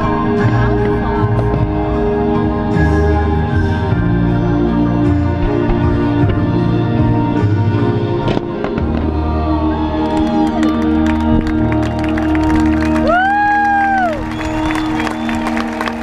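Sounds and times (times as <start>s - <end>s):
loud music: 0.0s - 16.0s.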